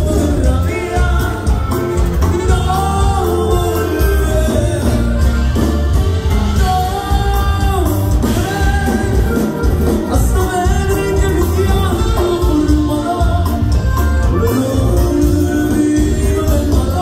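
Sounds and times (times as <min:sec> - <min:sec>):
live band playing dance music: 0:00.0 - 0:17.0
person singing: 0:00.0 - 0:17.0.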